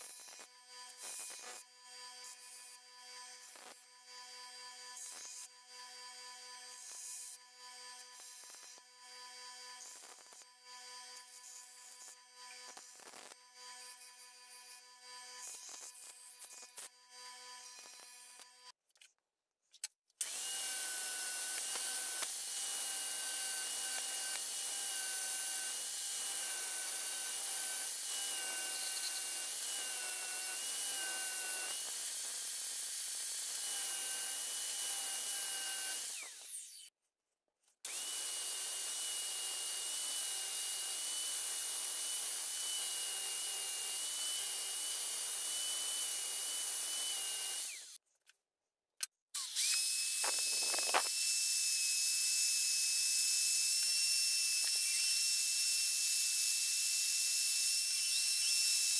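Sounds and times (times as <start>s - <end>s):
rotary tool grinding steel: 0.0s - 18.8s, 20.2s - 37.0s, 37.8s - 48.0s, 49.4s - 58.9s.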